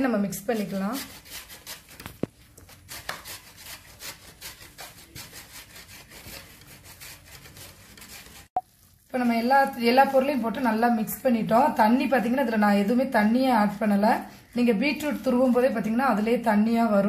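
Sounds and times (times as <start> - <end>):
hands mixing food in a bowl: 0.0 - 17.0.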